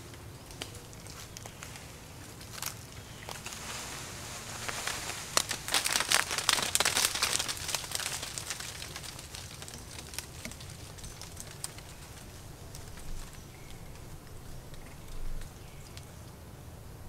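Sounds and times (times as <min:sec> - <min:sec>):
crinkling crackling rustles: 0:00.0 - 0:16.4.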